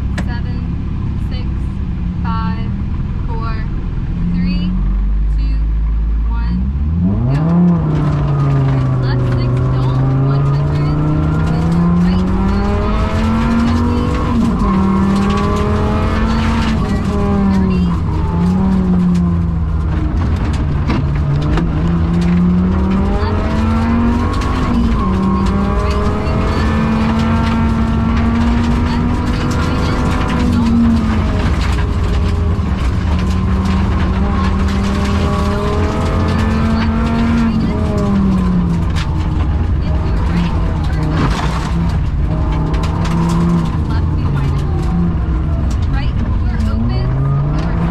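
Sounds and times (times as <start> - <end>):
gravel and tyre noise: 0.0 - 47.9
rally car engine at full throttle: 0.0 - 47.9.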